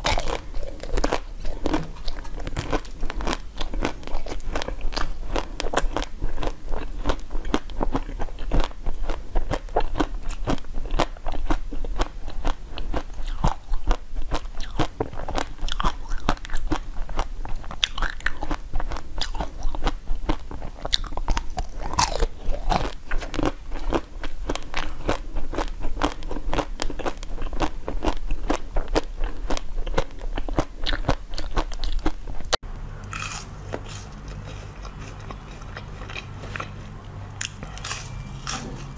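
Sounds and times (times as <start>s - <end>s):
crunchy ice chewing: 0.0s - 32.2s, 33.0s - 38.9s.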